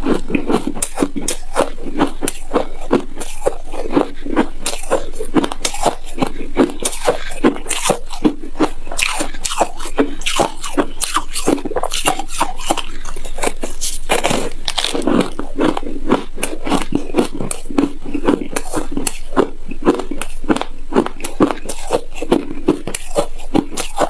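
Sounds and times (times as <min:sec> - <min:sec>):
chewing crunchy ice: 0:00.0 - 0:24.0.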